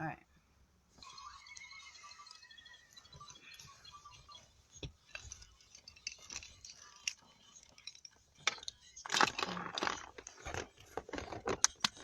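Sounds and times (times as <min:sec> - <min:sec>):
objects clicking and jangling: 0:01.0 - 0:12.0.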